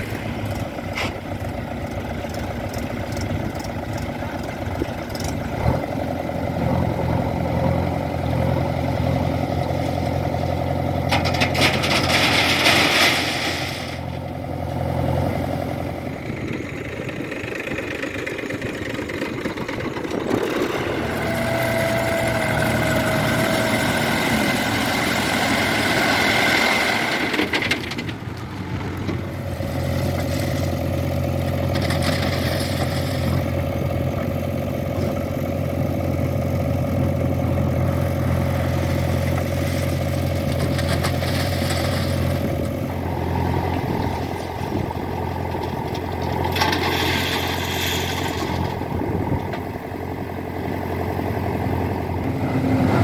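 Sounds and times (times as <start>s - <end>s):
diesel engine humming: 0.0s - 53.0s
high engine whine: 0.0s - 53.0s.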